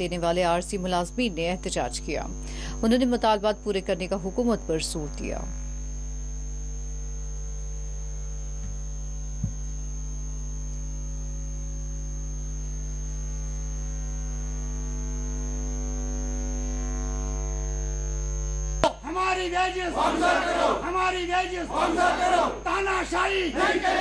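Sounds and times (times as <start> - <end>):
electrical mains hum: 0.0 - 24.0
thin high whine: 0.0 - 24.0.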